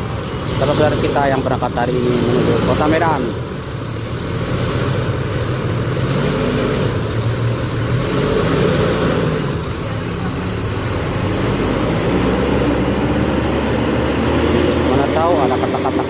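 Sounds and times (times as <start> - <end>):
road traffic engines: 0.0 - 16.0.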